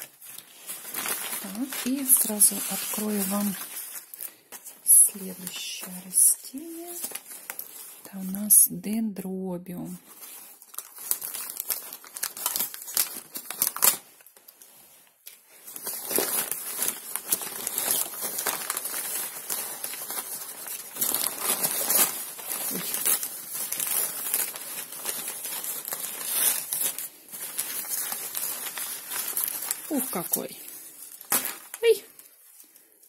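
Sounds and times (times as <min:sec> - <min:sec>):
paper crinkling and rustling: 0:00.0 - 0:08.7, 0:10.0 - 0:33.0.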